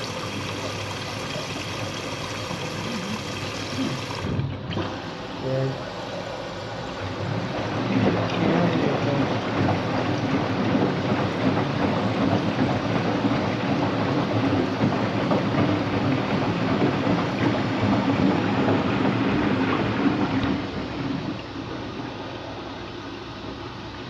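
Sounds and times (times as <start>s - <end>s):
washing machine rumbling and grinding: 0.0s - 24.0s.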